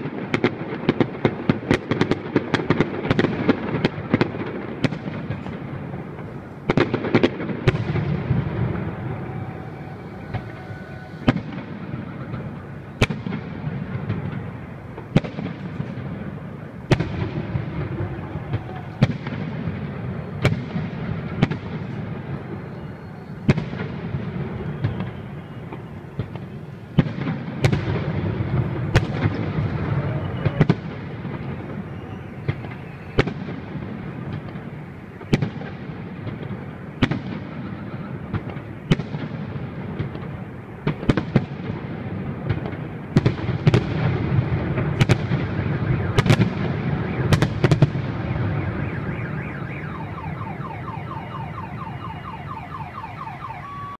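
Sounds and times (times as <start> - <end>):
firework bangs: 0.0 - 52.8.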